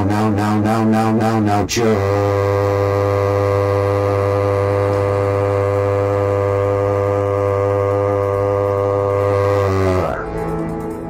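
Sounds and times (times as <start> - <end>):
synthetic voice buzzing drone: 0.0 - 11.0.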